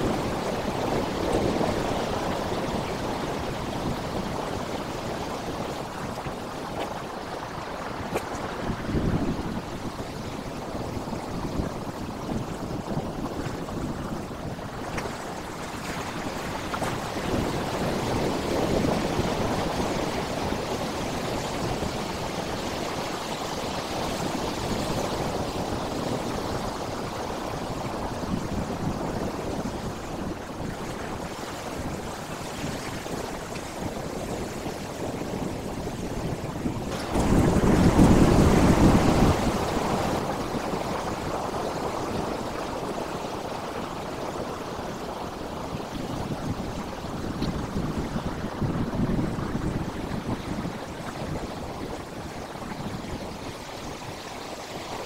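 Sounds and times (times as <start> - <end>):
sea waves breaking over rocks: 0.0 - 55.0.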